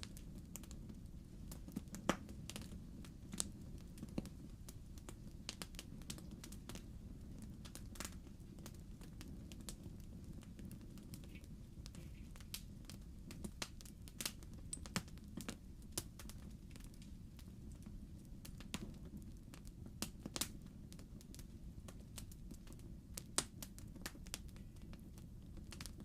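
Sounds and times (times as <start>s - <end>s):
fireplace fire crackling: 0.0s - 26.0s.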